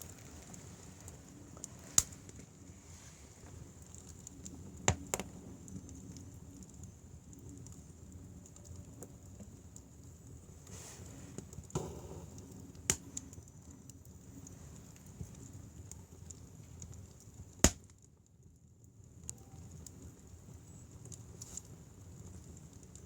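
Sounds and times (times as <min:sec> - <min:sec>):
wood fire hissing: 0:00.0 - 0:17.9, 0:19.2 - 0:23.0
fire popping and crackling: 0:00.0 - 0:23.0.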